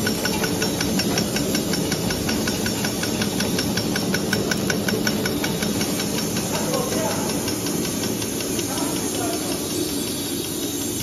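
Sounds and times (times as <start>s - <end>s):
machine cutter clicking rapidly: 0.0s - 11.0s
production line humming: 0.0s - 11.0s.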